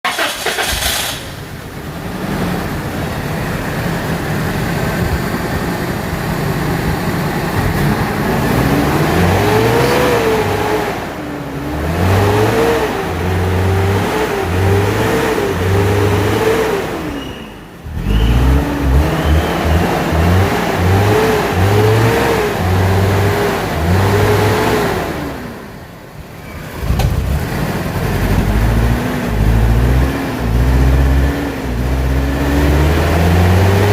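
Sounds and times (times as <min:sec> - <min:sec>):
truck engine revving: 0:00.0 - 0:33.9.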